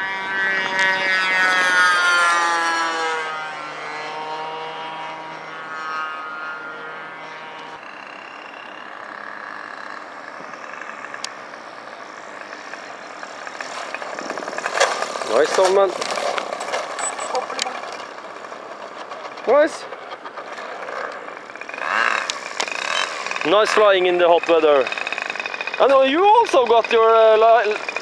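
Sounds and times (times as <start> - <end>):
model plane motor and propeller: 0.0 - 28.0.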